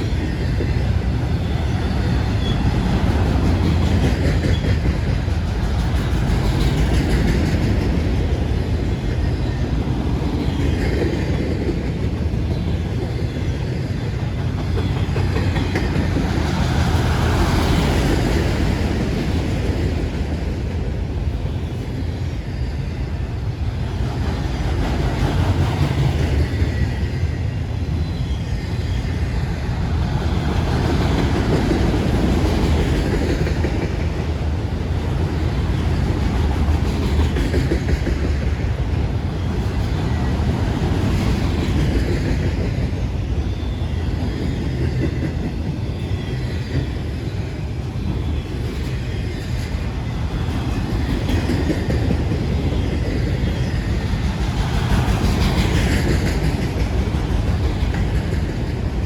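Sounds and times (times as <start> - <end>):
freight train wheels rumbling on track: 0.0 - 59.0.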